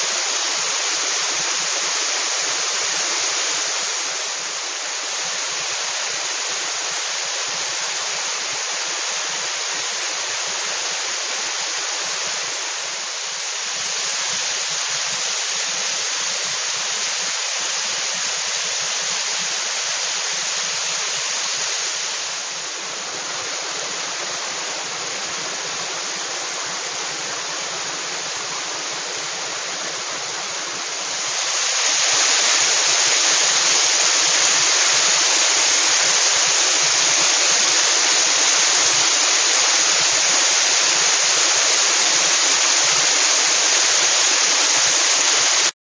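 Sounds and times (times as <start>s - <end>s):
waterfall pouring: 0.0s - 45.7s.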